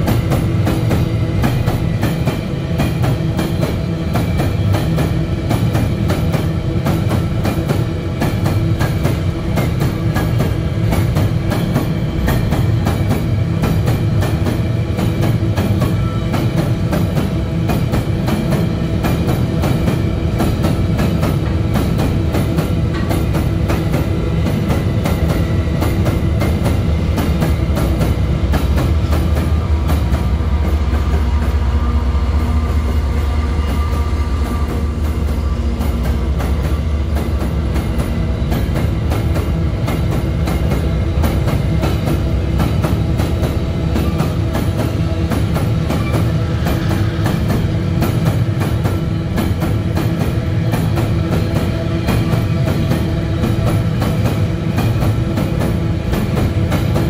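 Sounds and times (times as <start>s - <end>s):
train wheels clattering: 0.0s - 57.0s.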